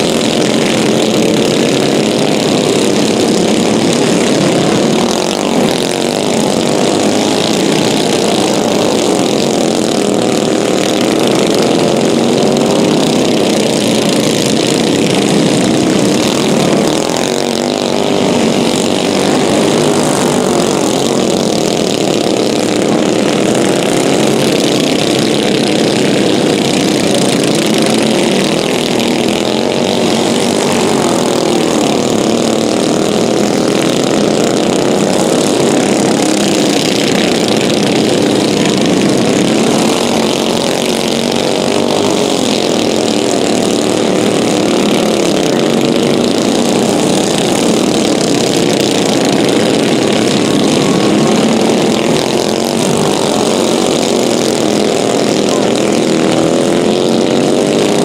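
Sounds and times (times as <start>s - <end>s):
racing kart engines: 0.0s - 58.0s.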